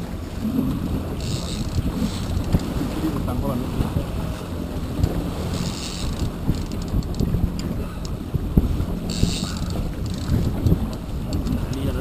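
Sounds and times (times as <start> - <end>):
boat engine hum: 0.0 - 12.0
wind buffeting microphone: 0.0 - 12.0.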